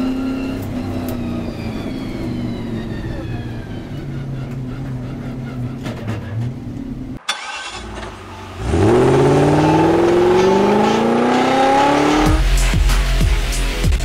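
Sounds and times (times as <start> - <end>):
car engine accelerating hard: 0.0 - 12.8.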